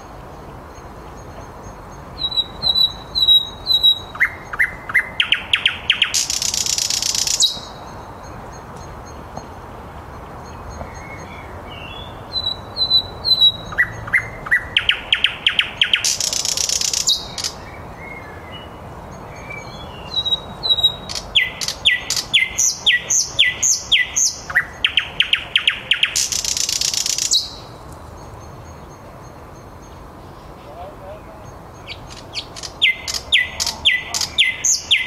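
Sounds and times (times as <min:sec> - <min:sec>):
nightingale singing: 0:00.0 - 0:35.0.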